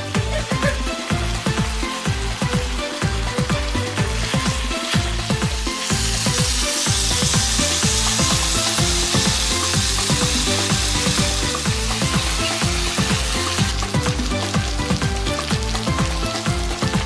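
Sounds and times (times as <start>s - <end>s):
background music with low beat: 0.0s - 17.0s
ribs sizzling in a pan: 0.6s - 17.0s.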